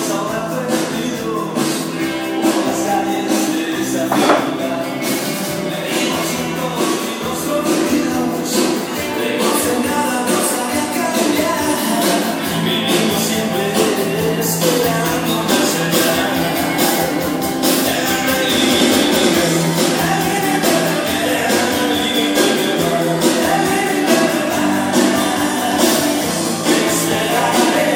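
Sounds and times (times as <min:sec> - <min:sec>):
upbeat rock-pop music with singing: 0:00.0 - 0:27.9.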